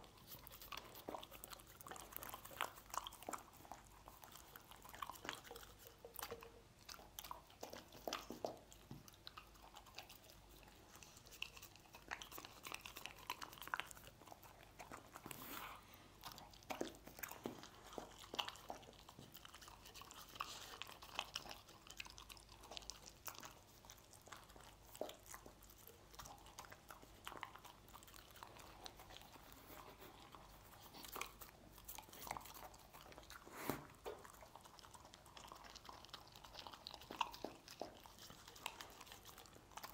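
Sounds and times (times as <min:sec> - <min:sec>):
dog licking and chewing food: 0:00.0 - 0:39.9.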